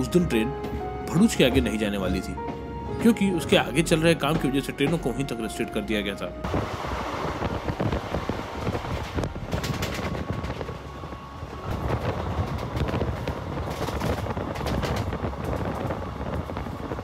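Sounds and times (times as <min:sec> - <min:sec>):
train wheels rumbling on rails: 0:00.1 - 0:05.5, 0:06.5 - 0:17.0.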